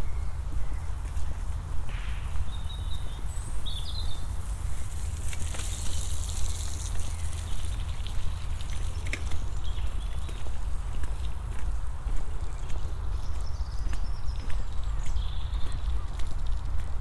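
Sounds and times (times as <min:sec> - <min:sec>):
footsteps outdoors: 0:00.0 - 0:17.0
wind rumble on microphone: 0:00.0 - 0:17.0.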